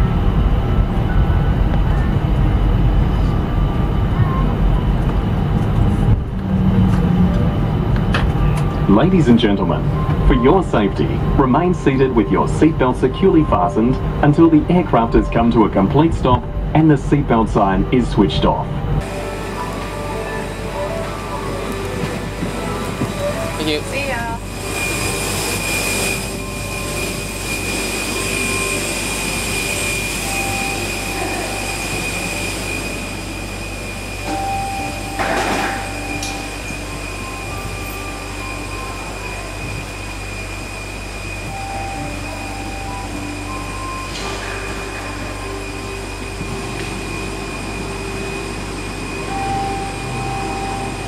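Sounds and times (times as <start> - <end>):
constant high-pitched whine: 0.0 - 51.0
low machinery hum: 0.0 - 51.0.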